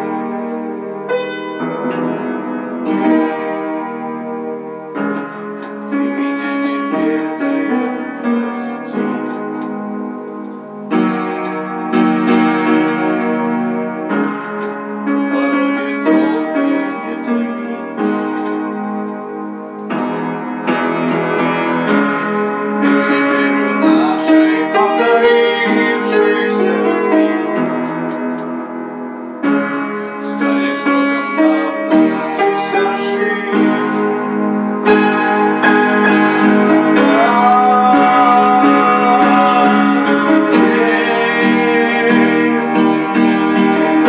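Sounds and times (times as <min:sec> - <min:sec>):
keyboard playing pop chords: 0:00.0 - 0:44.0.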